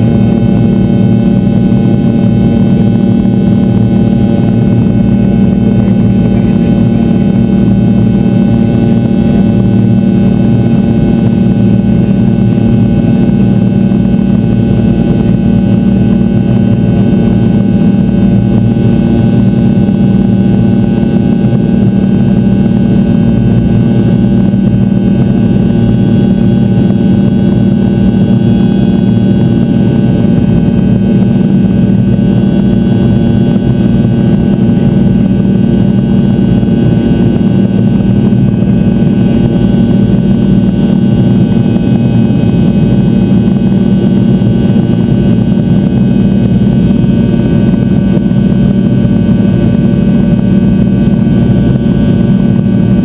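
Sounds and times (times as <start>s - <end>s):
jet engine drone in cabin: 0.0s - 53.0s.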